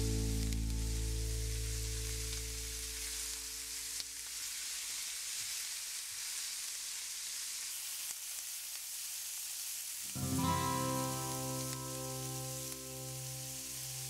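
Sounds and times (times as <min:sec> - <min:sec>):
food sizzling in frying pan: 0:00.0 - 0:14.0.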